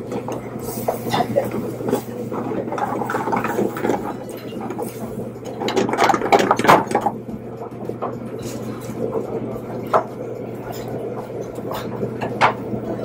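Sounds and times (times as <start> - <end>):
low kitchen hum: 0.0 - 13.0.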